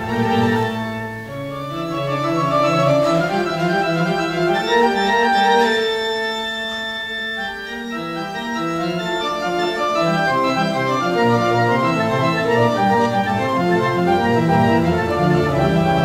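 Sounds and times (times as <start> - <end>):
theatre pipe organ playing: 0.0 - 16.0.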